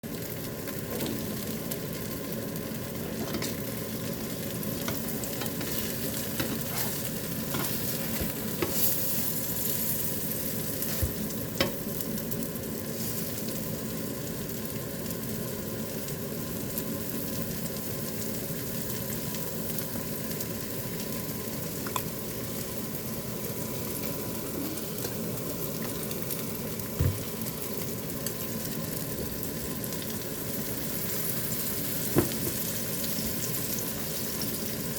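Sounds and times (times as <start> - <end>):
rice cakes sizzling in frying: 0.0 - 34.9.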